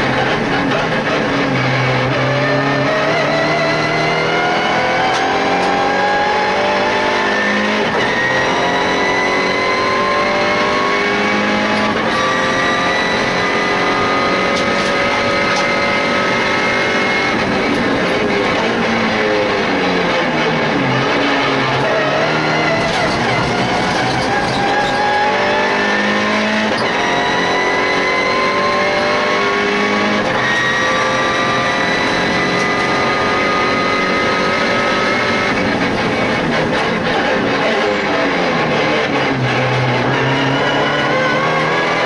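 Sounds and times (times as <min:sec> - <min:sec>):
race car engine at full throttle: 0:00.0 - 0:42.0.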